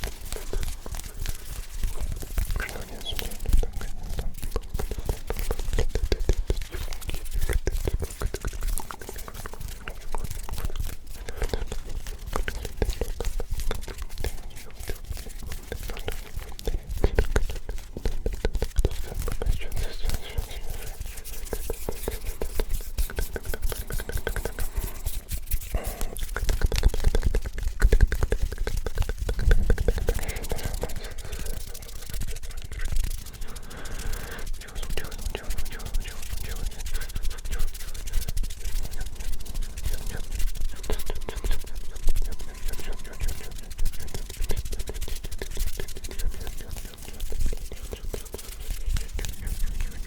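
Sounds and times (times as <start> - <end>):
hands rubbing and tapping: 0.0 - 50.0.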